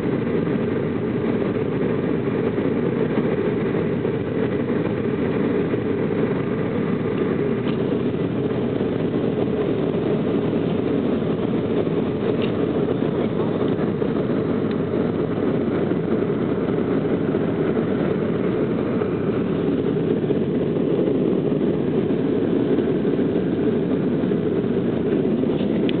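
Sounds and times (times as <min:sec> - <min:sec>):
air rushing past fuselage: 0:00.0 - 0:26.0
jet engines low rumble: 0:00.0 - 0:26.0.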